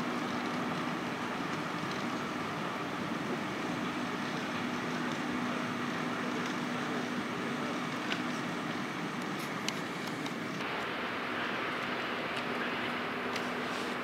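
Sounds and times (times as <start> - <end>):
locomotive diesel engine running: 0.0 - 14.0.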